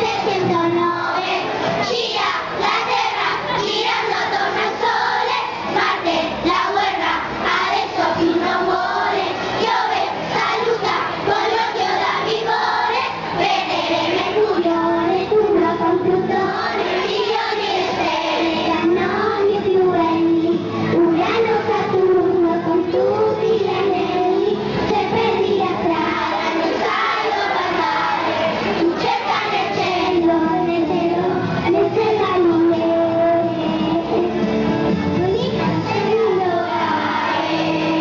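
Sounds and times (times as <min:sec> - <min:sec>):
children's choir singing: 0:00.0 - 0:38.0.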